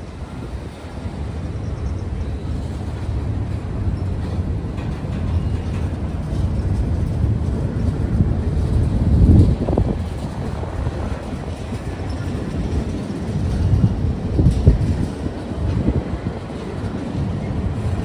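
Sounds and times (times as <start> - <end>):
train rumbling by: 0.0 - 18.0.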